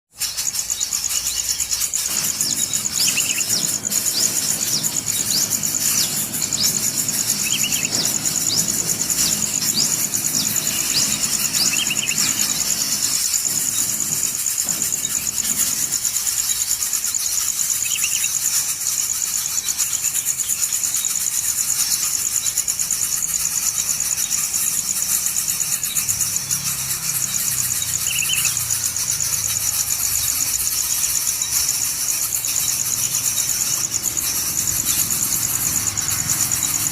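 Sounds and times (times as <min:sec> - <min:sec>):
high-pitched insect drone: 0:00.2 - 0:36.9.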